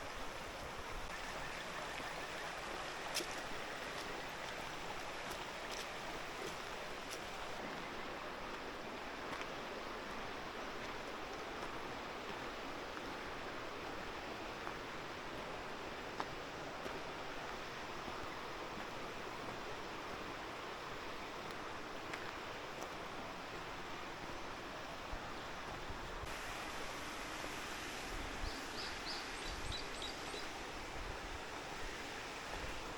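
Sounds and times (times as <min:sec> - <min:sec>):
mountain stream rushing: 0:00.0 - 0:32.9.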